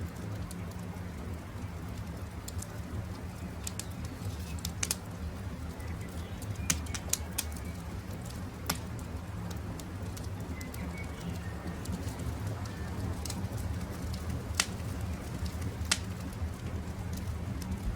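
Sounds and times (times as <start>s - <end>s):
campfire crackling and popping: 0.0s - 17.9s
low rumble of burning fire: 0.0s - 17.9s.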